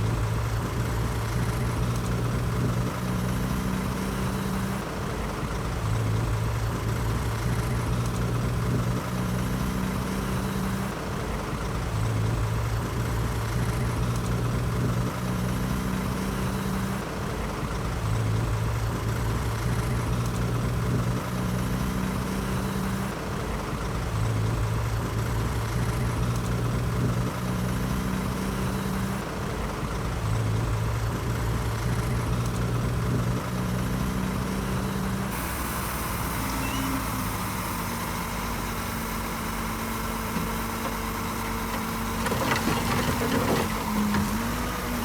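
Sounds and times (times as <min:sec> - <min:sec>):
heavy diesel engine hum: 0:00.0 - 0:45.0.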